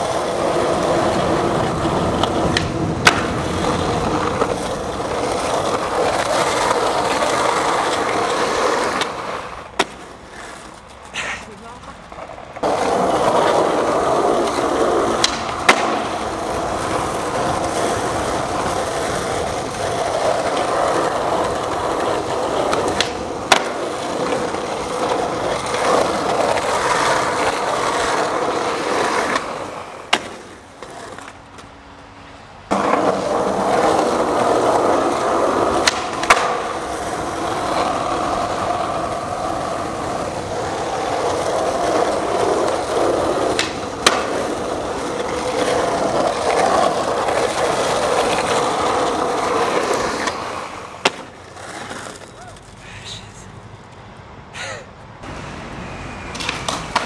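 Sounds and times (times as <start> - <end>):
skateboard clacks: 0.0 - 31.8, 32.7 - 52.8, 56.2 - 57.0
skateboard wheels rolling on pavement: 0.0 - 57.0.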